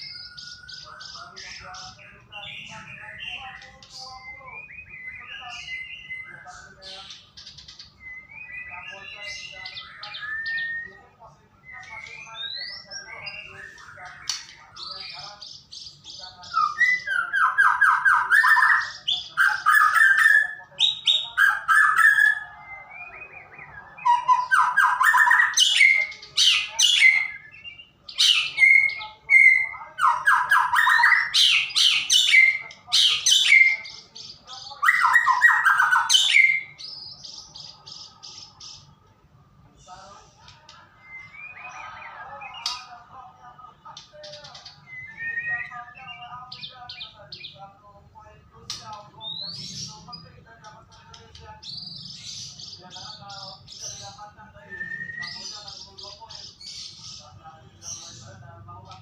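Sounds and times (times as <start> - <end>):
bird singing trills and whistles: 0.0 - 39.0, 40.8 - 43.0, 44.0 - 47.6, 49.1 - 59.0.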